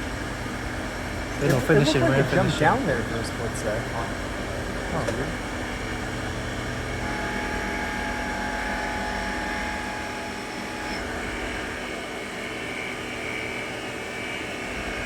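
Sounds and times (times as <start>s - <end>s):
lathe machine hum: 0.0s - 15.0s
thin machine whine: 0.0s - 15.0s.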